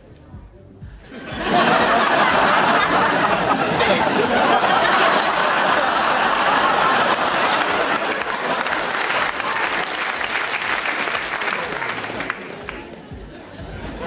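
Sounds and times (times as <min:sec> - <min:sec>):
audience laughing: 0:01.0 - 0:14.0
audience applauding: 0:01.5 - 0:13.2.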